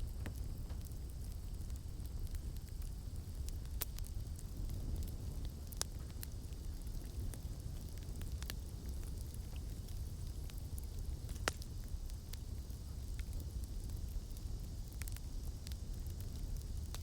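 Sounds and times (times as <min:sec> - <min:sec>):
burning wood crackling and popping: 0:00.0 - 0:17.0
flames rumbling: 0:00.0 - 0:17.0.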